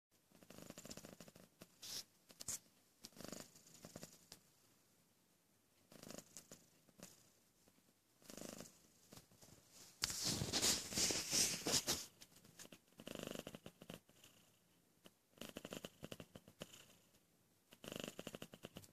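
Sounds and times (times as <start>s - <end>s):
cat purring: 0.2s - 4.6s, 5.7s - 18.9s.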